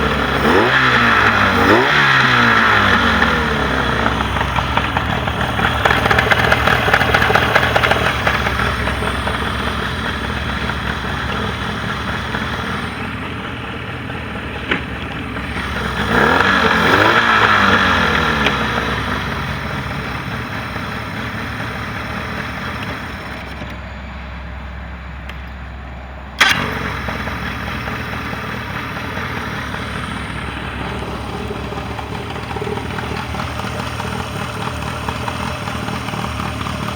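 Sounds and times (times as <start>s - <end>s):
outboard motor running: 0.0s - 23.8s, 26.4s - 36.9s.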